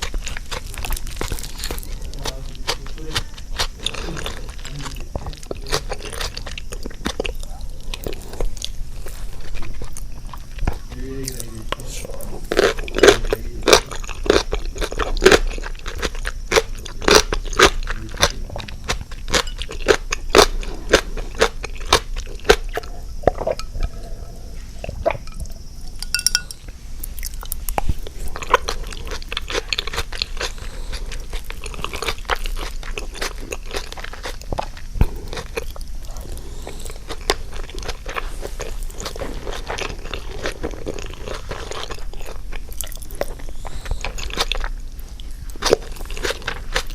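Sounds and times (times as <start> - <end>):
crunching and chewing cucumber: 0.0 - 46.9.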